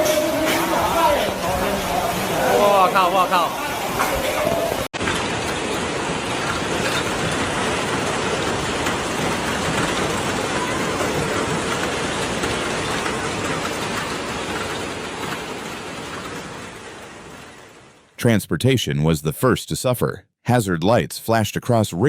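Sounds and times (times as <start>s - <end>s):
hail pelting hard surfaces: 0.0s - 18.0s.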